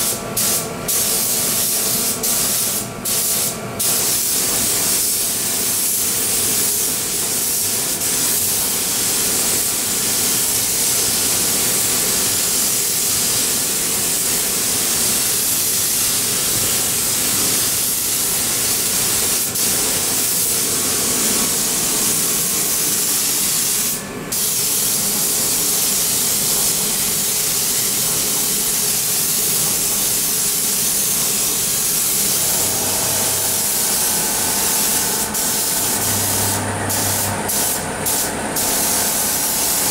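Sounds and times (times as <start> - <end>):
paint spray gun hissing: 0.0 - 39.9.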